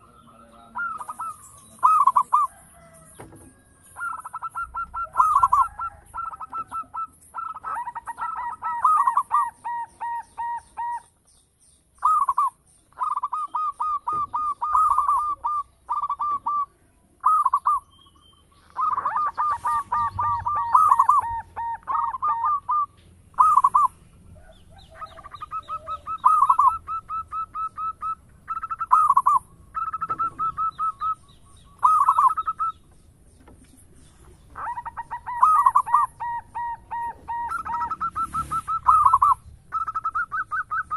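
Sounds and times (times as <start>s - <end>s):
dove cooing: 0.0s - 11.2s, 12.0s - 17.9s, 18.5s - 40.9s.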